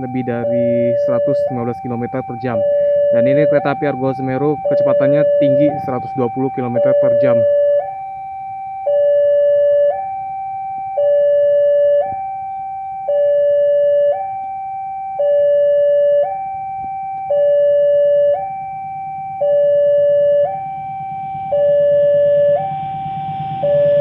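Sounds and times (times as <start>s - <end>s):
level crossing two-tone alarm: 0.0s - 24.0s.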